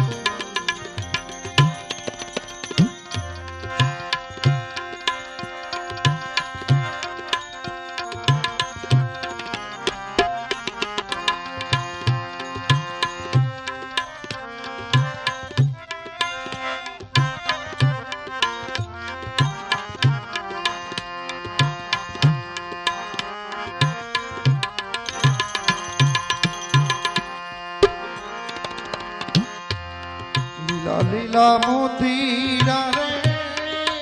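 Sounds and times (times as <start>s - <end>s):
harmonium and keyboard melody: 0.0s - 34.0s
tabla rhythm: 0.0s - 34.0s.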